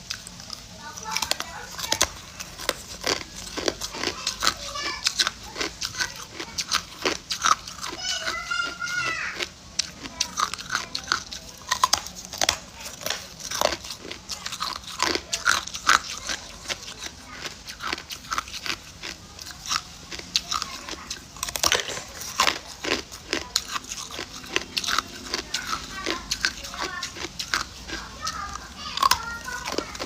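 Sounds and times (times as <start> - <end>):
ice cubes being chewed: 0.0 - 30.0.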